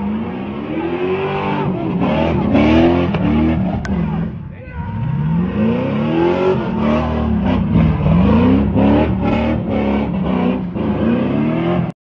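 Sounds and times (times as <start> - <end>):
tires spinning on pavement: 0.0 - 11.9
car engine revving: 0.0 - 12.0.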